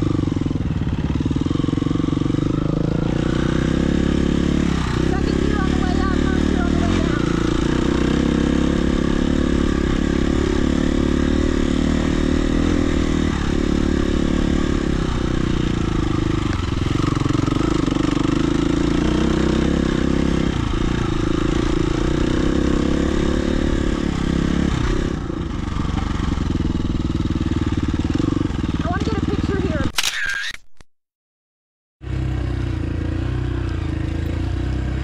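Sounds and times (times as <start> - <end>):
dirt bike engine: 0.0 - 30.8.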